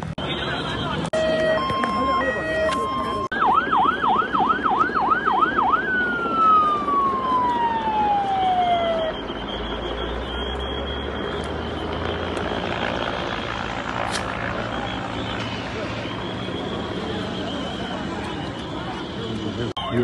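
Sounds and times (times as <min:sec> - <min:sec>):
emergency vehicle siren: 0:00.0 - 0:20.0
outdoor background noise: 0:00.0 - 0:20.0.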